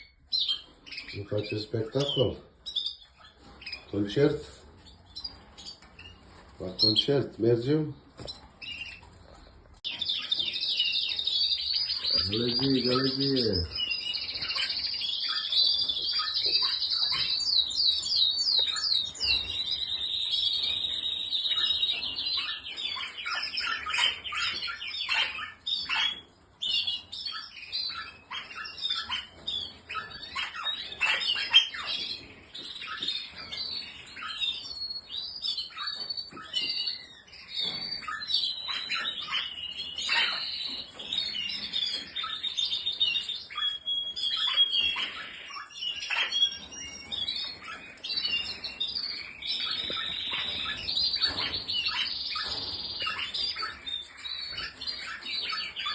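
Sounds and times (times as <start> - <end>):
canaries singing and chirping: 0.0 - 55.9
canary trills: 0.0 - 55.9.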